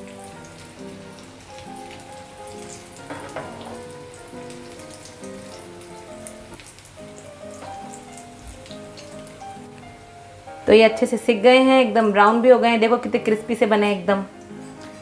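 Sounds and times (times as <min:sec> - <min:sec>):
deep-frying oil sizzling: 0:00.0 - 0:15.0
soft instrumental music: 0:00.0 - 0:15.0.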